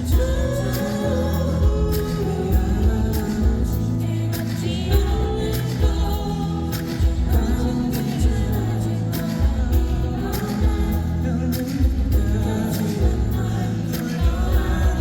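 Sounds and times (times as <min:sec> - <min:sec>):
drum beat: 0:00.0 - 0:00.9, 0:01.6 - 0:15.0
heavy bass: 0:00.0 - 0:15.0
male lead vocal: 0:00.0 - 0:15.0
pop song over sound system: 0:00.0 - 0:15.0.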